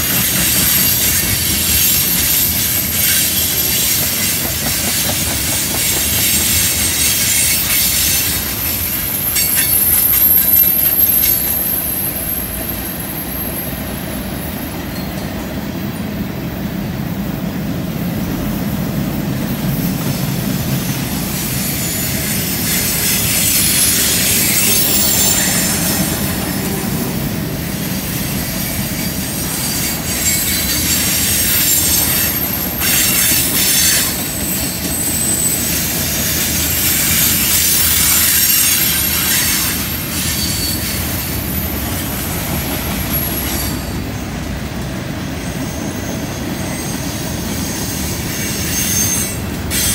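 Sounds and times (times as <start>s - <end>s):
high wheel flange squeal: 0.0s - 15.6s, 19.8s - 49.9s
steel wheels rumbling on rail: 0.0s - 49.9s.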